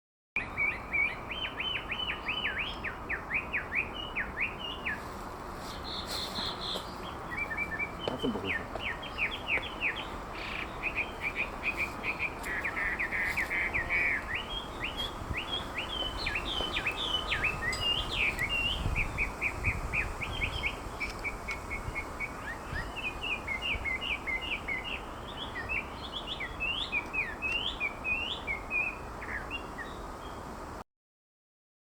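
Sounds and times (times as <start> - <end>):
bird singing whistled notes: 0.4 - 5.0, 5.8 - 30.4.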